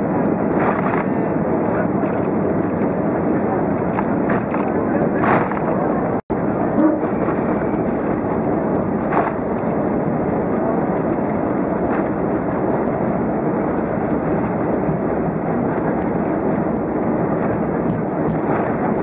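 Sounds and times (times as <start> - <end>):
airliner cabin noise: 0.0 - 19.0.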